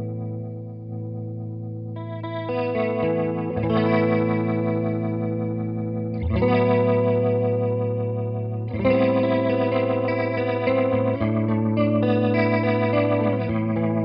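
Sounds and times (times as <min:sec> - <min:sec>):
electric guitar chords with warble: 0:00.0 - 0:14.0.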